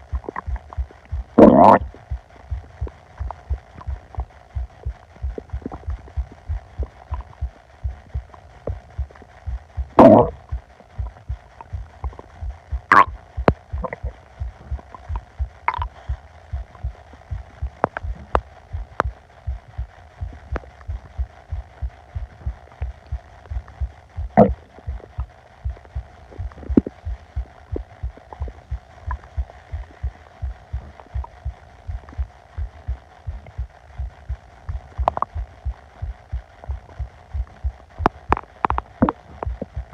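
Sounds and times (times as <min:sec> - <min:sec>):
low thumping pulse: 0:00.0 - 0:39.9
stomach gurgles: 0:00.0 - 0:39.9.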